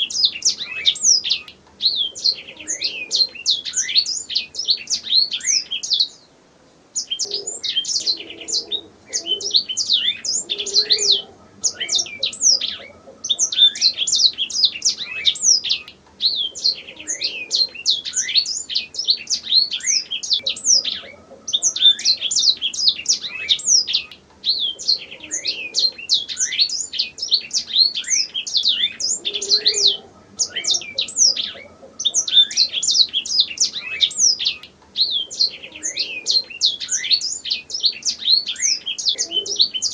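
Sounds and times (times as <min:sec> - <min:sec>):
canary singing trills: 0:00.0 - 0:06.3, 0:07.0 - 0:39.9.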